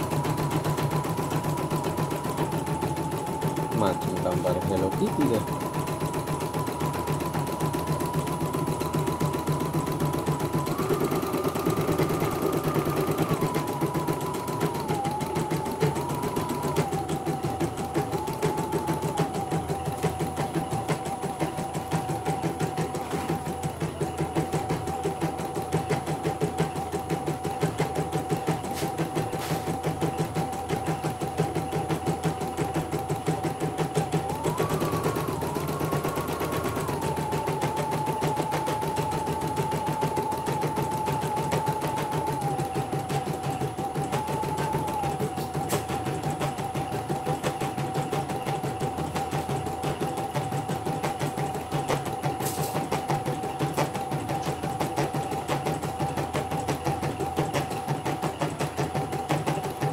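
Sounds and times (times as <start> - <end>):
motor whine: 0.0 - 59.9.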